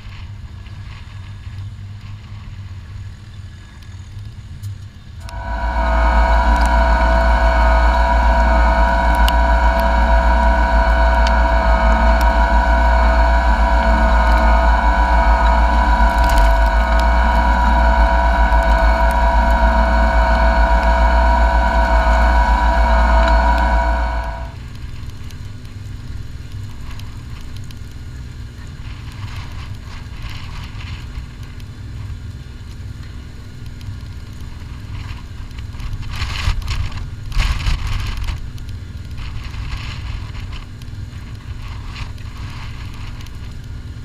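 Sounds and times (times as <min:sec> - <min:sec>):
tractor diesel engine running: 0:05.2 - 0:44.0.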